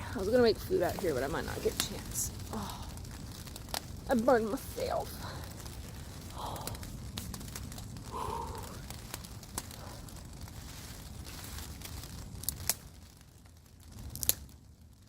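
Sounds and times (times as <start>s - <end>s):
campfire crackling: 0.0s - 15.0s
low steady rumble: 0.0s - 15.0s
sharp fire pops: 0.0s - 15.0s.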